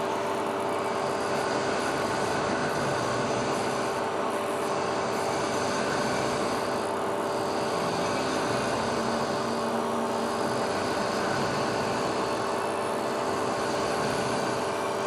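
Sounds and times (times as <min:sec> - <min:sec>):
constant machine noise: 0:00.0 - 0:15.0
machine tool whine: 0:00.0 - 0:15.0.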